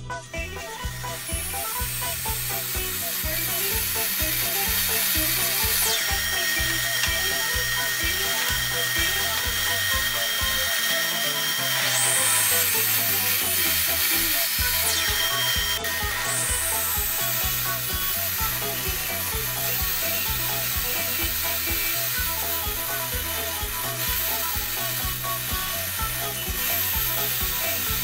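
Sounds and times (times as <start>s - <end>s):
background music with guitar beat: 0.0s - 28.0s
table saw motor whine: 0.0s - 28.0s.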